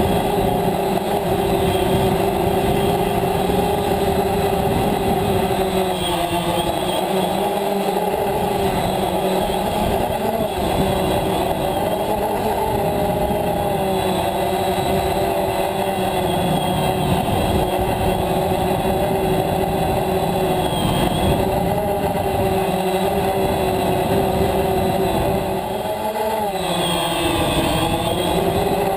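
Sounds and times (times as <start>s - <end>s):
drone propellers buzzing: 0.0s - 28.9s.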